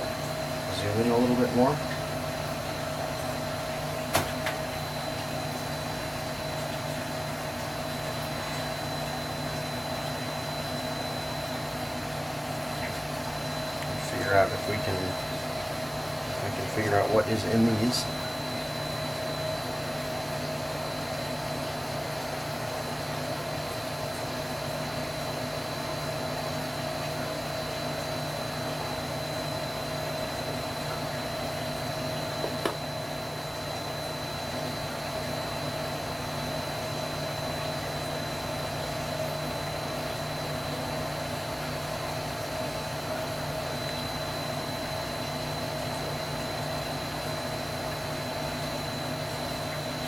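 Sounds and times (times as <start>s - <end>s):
machine humming and hissing: 0.0s - 50.0s.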